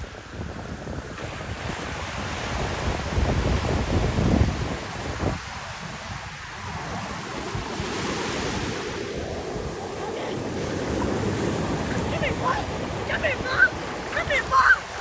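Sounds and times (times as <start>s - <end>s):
ocean surf washing ashore: 0.0s - 15.0s
wind buffeting microphone: 0.0s - 15.0s.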